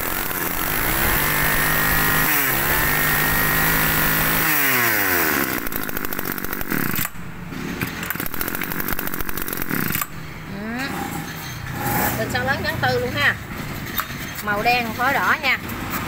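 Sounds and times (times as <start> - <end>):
two-stroke engine revving: 0.0 - 13.4.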